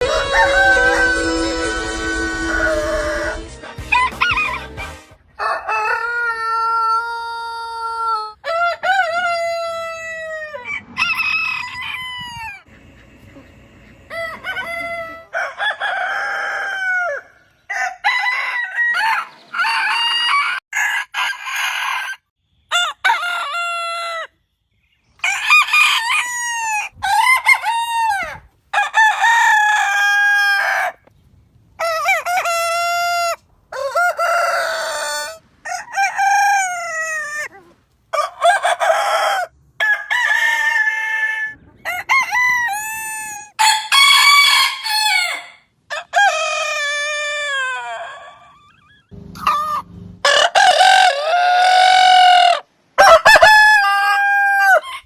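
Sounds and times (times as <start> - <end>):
roosters crowing: 0.0 - 24.4, 25.1 - 31.1, 31.7 - 55.0.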